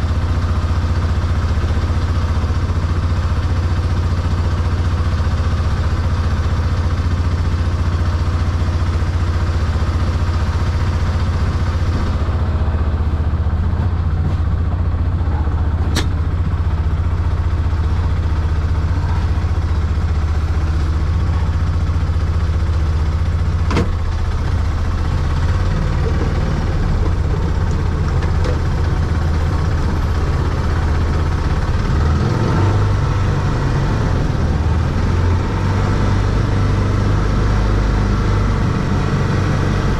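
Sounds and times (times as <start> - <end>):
engine running low drone: 0.0 - 39.9.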